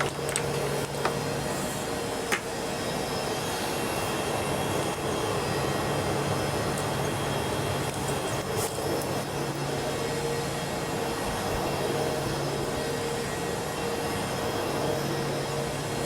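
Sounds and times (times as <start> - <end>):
ventilation fans humming: 0.0 - 16.0.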